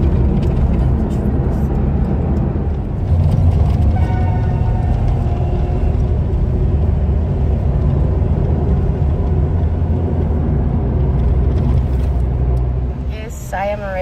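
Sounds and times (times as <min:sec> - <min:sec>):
car interior road rumble: 0:00.0 - 0:14.0.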